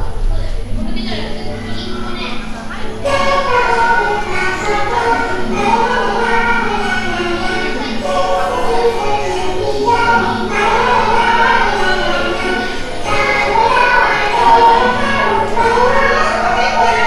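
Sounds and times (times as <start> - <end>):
choir singing with music: 0.8 - 17.0.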